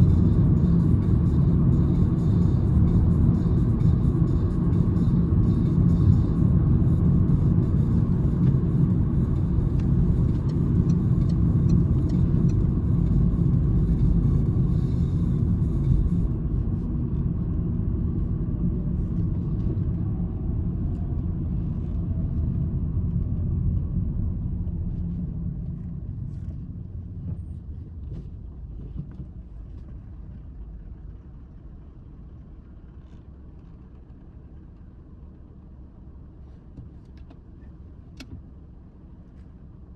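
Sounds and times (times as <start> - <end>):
car engine drone: 0.0 - 39.9
road rumble: 0.0 - 39.9.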